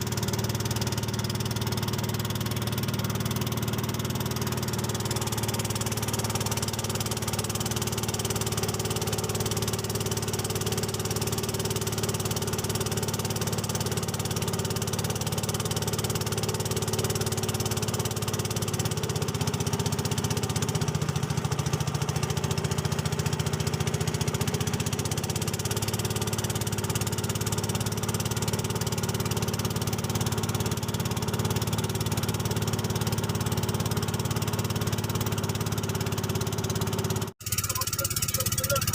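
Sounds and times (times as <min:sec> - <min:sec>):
small boat engine running: 0:00.0 - 0:38.9.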